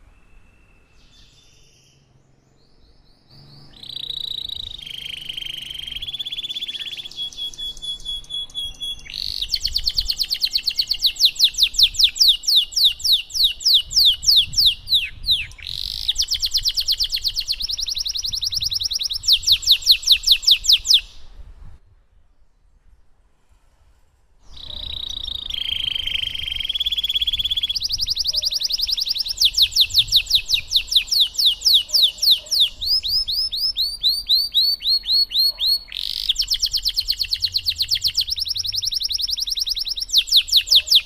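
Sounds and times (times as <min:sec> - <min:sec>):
canary singing: 0:03.1 - 0:21.4, 0:24.5 - 0:41.0.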